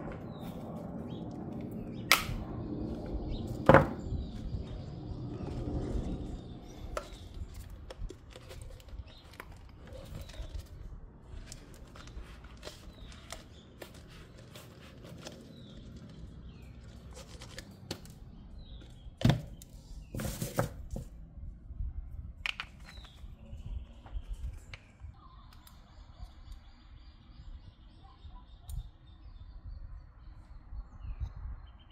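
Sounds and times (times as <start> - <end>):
birds chirping: 0.0 - 21.0, 22.5 - 31.9.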